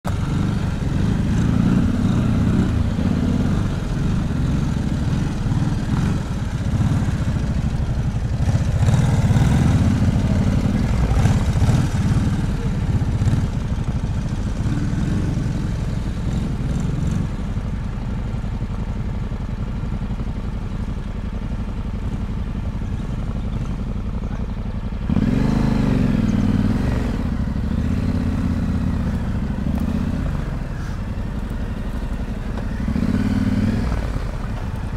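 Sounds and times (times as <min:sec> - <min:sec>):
motorcycle engine revving: 0:00.0 - 0:20.6, 0:21.2 - 0:34.9.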